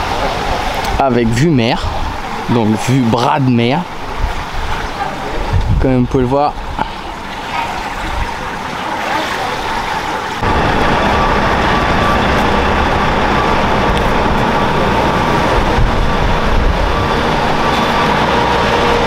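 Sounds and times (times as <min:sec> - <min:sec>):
rumble of cars and trucks: 0:00.0 - 0:08.8, 0:09.7 - 0:19.0.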